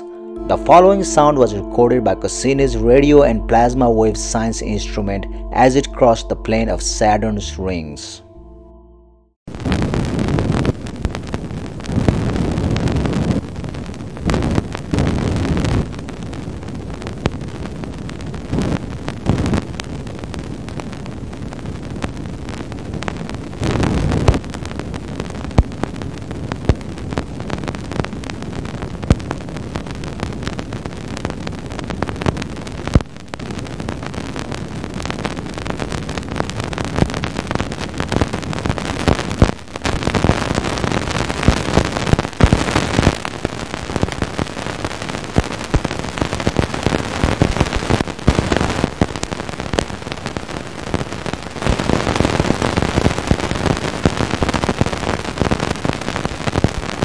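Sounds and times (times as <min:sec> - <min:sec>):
dense crackling and popping: 0:09.5 - 0:57.0.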